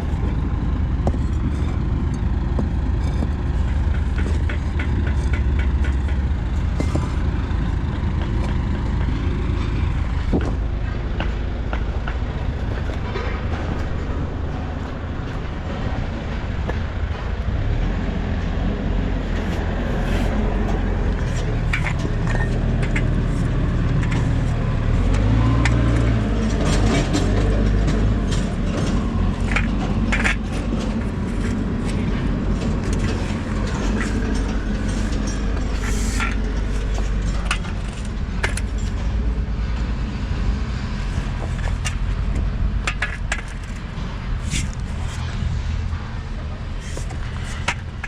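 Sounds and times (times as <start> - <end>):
engine rumbling: 0.0 - 48.0.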